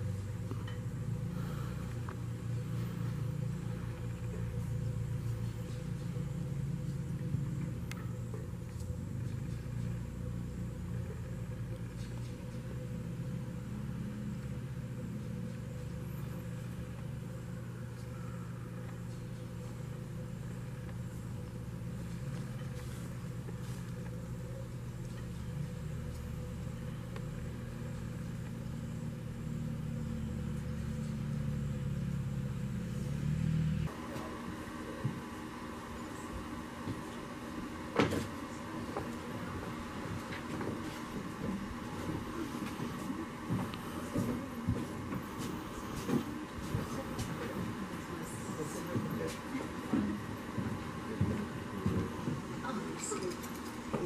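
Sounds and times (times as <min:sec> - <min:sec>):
faint background sound: 0:00.0 - 0:54.0
low engine hum: 0:00.0 - 0:54.0.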